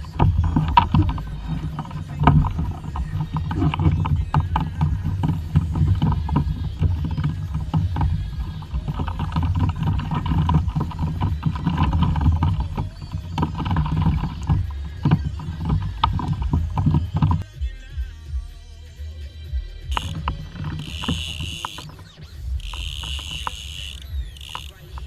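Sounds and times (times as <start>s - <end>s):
water sloshing against hull: 0.0s - 17.4s, 19.9s - 25.0s.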